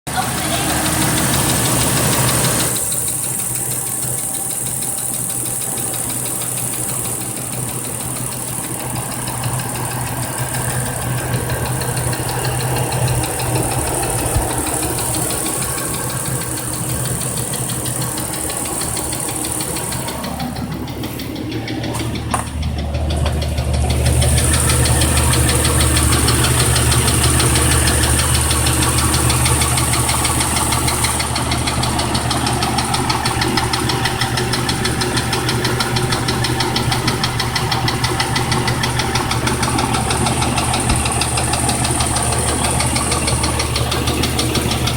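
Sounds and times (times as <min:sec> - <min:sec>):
engine knocking: 0:00.0 - 0:44.9.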